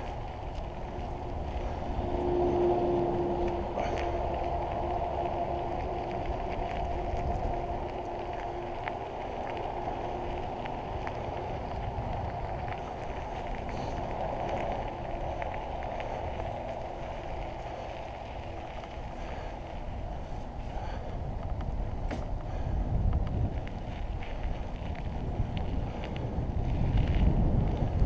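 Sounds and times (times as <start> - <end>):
bike ticks and rattles: 0.0 - 28.0
bike tyres on gravel: 0.0 - 28.0
wind on microphone: 0.0 - 28.0.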